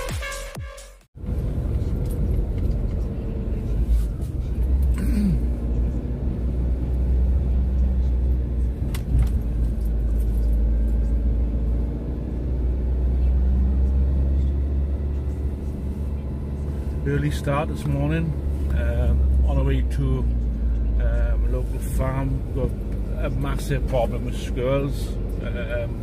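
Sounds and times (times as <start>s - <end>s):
car engine and road rumble: 1.2s - 26.0s.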